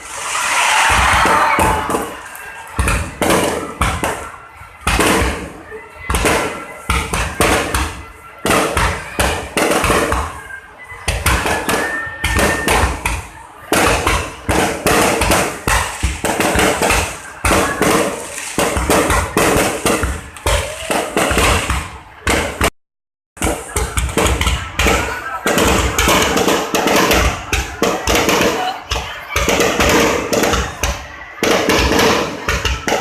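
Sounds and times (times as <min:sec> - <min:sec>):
fireworks bangs and booms: 0:00.0 - 0:22.7, 0:23.4 - 0:33.0.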